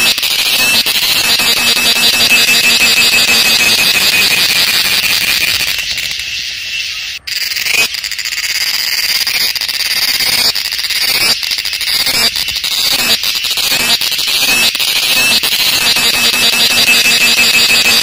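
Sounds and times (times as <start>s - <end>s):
cicadas buzzing: 0.0s - 18.0s.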